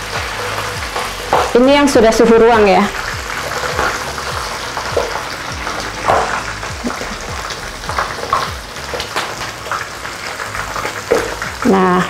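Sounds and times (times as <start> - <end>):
prawns sizzling in oil: 0.0 - 12.0.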